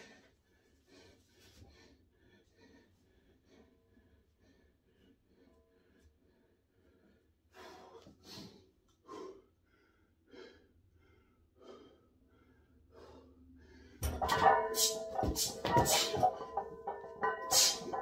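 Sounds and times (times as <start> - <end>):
man breathing heavily: 0.0 - 18.0.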